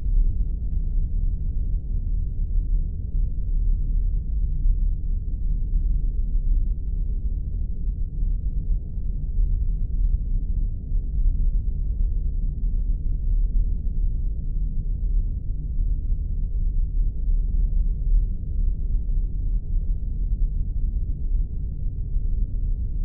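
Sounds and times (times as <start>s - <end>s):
deep rumbling drone: 0.0s - 23.0s.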